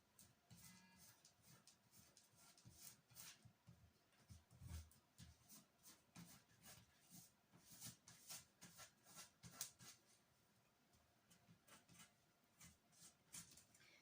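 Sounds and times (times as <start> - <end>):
plasticine scraping on cardboard: 0.5 - 3.6, 4.2 - 10.0, 11.3 - 13.7.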